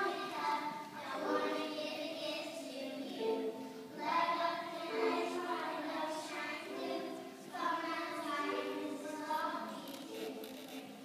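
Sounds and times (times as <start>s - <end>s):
children singing together: 0.0s - 10.5s.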